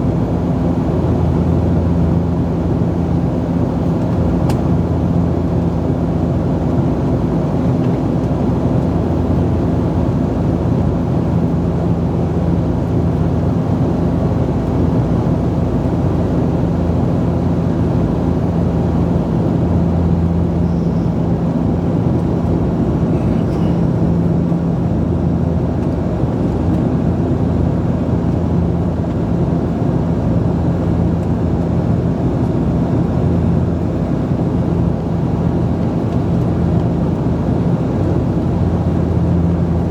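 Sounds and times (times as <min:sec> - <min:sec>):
constant rushing cabin noise: 0:00.0 - 0:39.9
propeller hum: 0:00.0 - 0:39.9.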